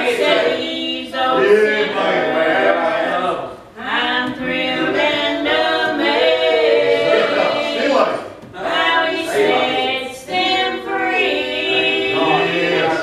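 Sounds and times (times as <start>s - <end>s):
women singing gospel song: 0.0s - 13.0s.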